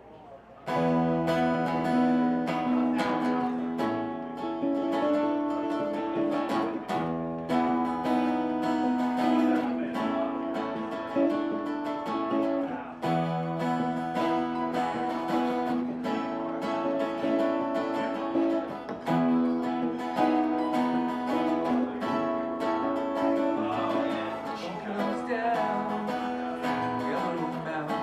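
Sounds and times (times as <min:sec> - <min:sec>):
strummed acoustic guitars: 0:00.0 - 0:28.0.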